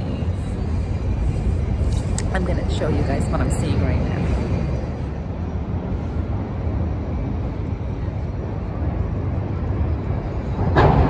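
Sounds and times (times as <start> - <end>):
city background rumble: 0.0 - 11.0.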